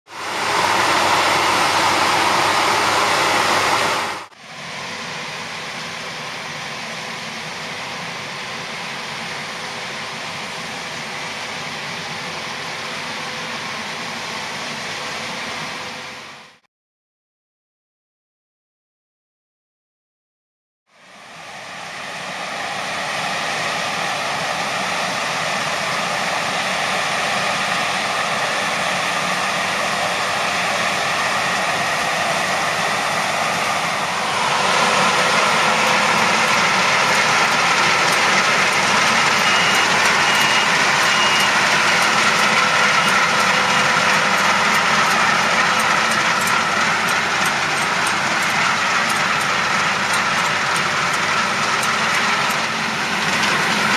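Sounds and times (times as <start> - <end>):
combine harvester running: 0.1 - 16.6, 21.0 - 53.9.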